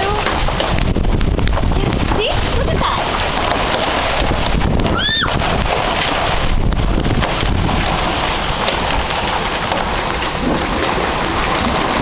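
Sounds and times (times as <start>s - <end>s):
hailstones ticking: 0.0s - 12.0s
heavy rain and hail: 0.0s - 12.0s
wind buffeting microphone: 0.0s - 12.0s.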